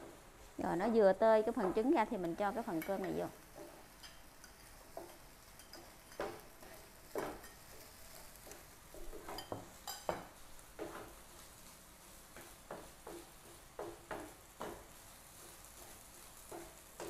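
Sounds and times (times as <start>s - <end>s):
faint sizzle: 0.0s - 17.0s.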